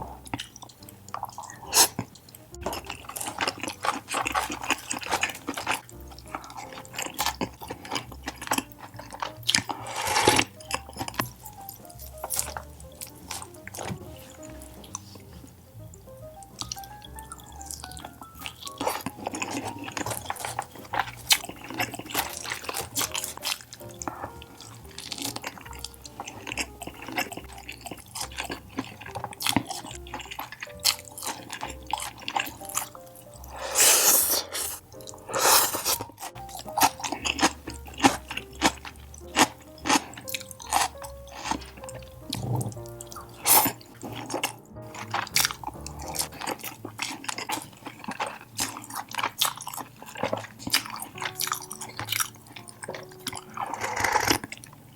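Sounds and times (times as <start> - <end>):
rasping crunchy bites: 0.0 - 15.3, 16.2 - 54.9
quiet background music: 0.0 - 54.9
wet chewing and lip smacks: 0.0 - 54.9.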